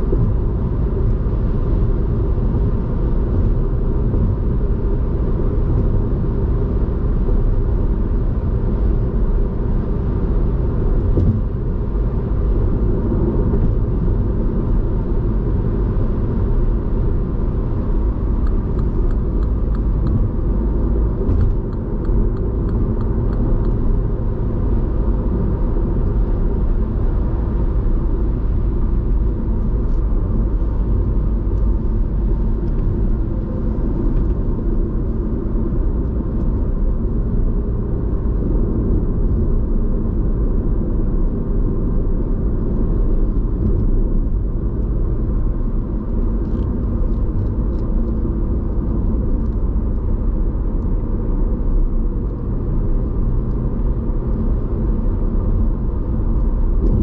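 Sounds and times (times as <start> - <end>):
car engine running: 0.0 - 57.0
road and tyre rumble: 0.0 - 57.0.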